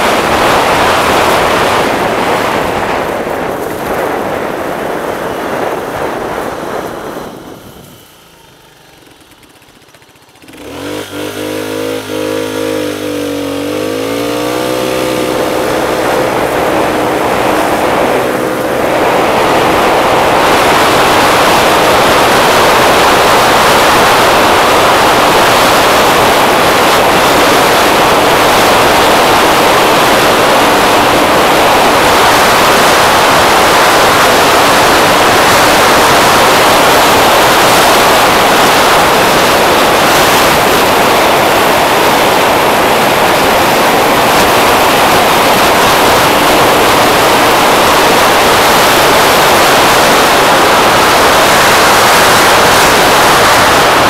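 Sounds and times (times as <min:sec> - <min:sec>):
scooter engine hum: 0:00.0 - 0:54.0
wind buffeting microphone: 0:00.0 - 0:54.0.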